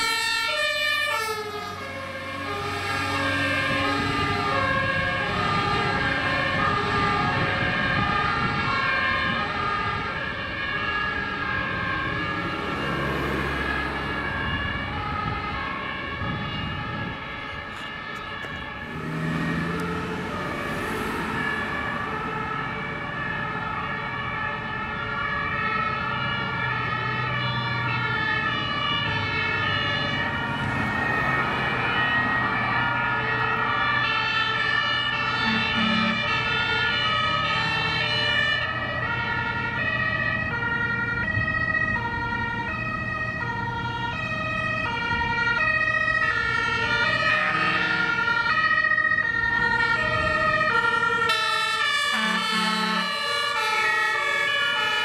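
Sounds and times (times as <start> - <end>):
diesel engines rumbling: 0.0 - 55.0
two-tone fire engine sirens: 0.0 - 55.0.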